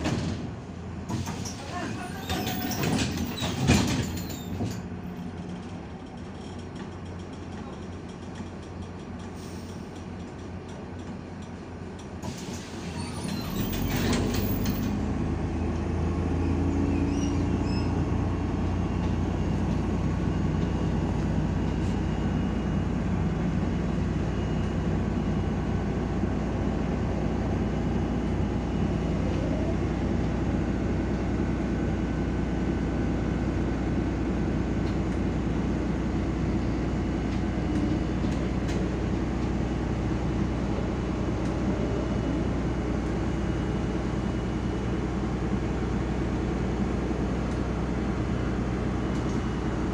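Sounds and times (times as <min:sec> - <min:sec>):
bus diesel engine drone: 0:00.0 - 0:49.9.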